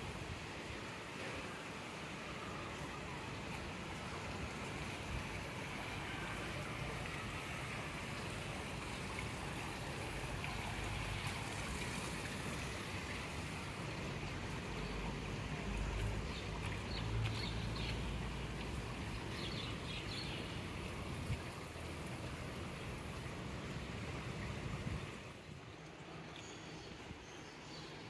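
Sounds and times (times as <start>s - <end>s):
water rushing: 0.0s - 28.0s.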